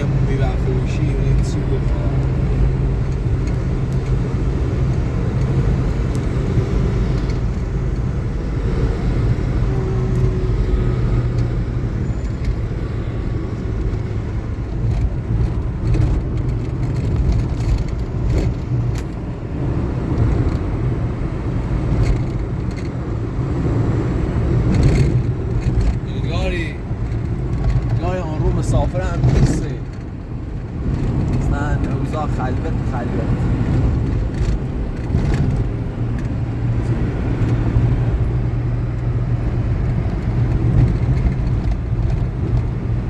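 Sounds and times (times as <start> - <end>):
car engine drone: 0.0 - 43.0
road noise: 0.0 - 43.0.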